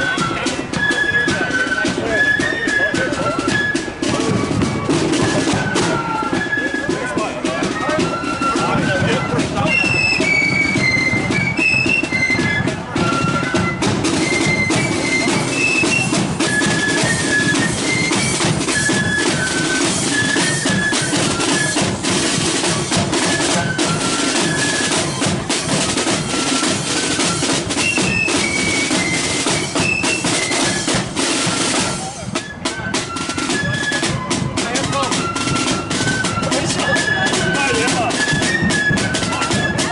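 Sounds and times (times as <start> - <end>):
flutes playing melody: 0.0 - 39.9
snare drums: 0.0 - 39.9.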